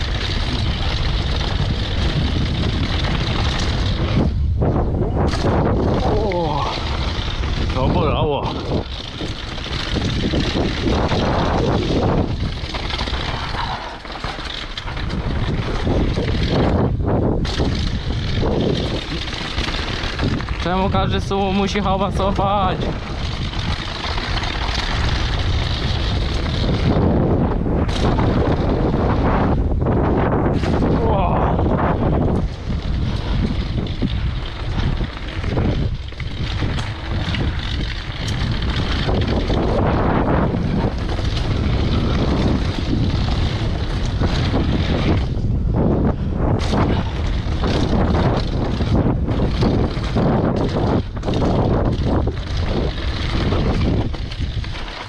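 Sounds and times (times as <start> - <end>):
bike rattling over bumps: 0.0 - 55.0
tyres on loose dirt: 0.0 - 55.0
wind rushing over microphone: 0.0 - 55.0.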